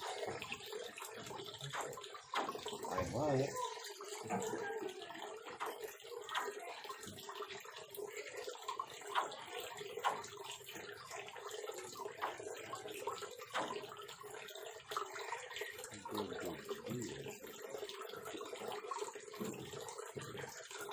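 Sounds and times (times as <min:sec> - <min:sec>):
water splashing: 0:00.0 - 0:20.9.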